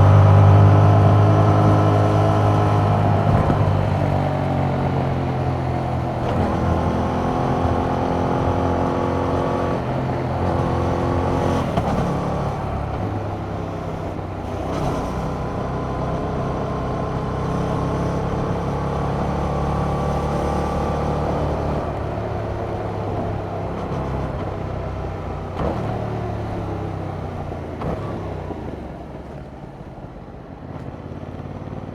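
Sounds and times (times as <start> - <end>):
motorcycle engine under way: 0.0 - 31.9.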